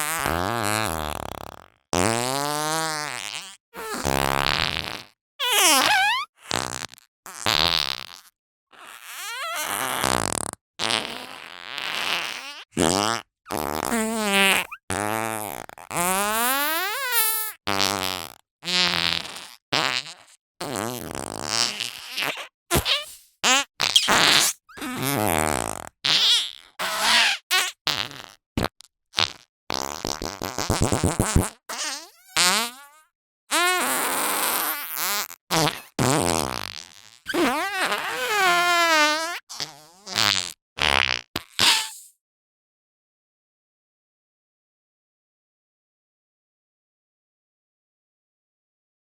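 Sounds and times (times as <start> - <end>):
cartoon fart sound effects: 0.0 - 42.1.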